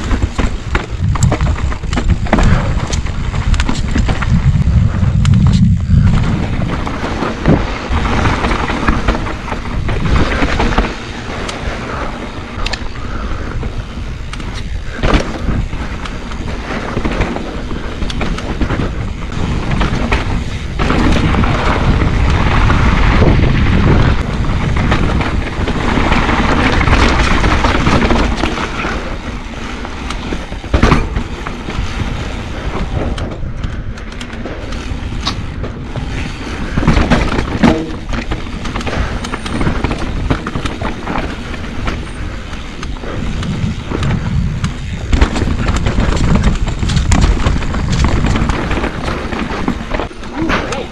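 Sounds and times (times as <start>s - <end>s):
bike knocking on rocks: 0.0s - 12.8s, 13.8s - 50.9s
bike rattling: 0.0s - 50.9s
bike tyres rumbling on dirt: 0.0s - 50.9s.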